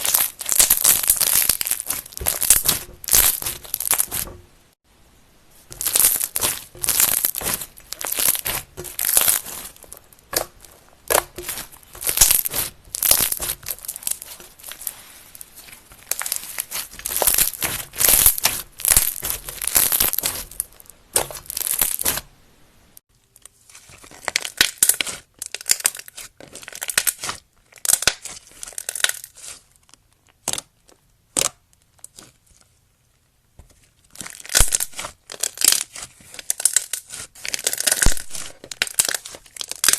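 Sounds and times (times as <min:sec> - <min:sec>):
slime crackling and popping: 0:00.0 - 0:04.4, 0:05.6 - 0:22.3, 0:23.8 - 0:30.7, 0:34.1 - 0:39.9.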